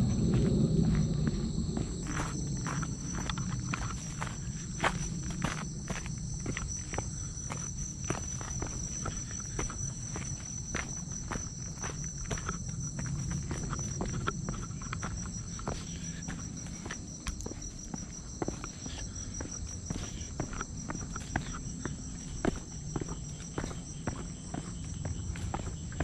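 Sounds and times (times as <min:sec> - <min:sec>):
footsteps on a trail: 0:00.0 - 0:26.0
high-pitched insect chorus: 0:00.0 - 0:26.0.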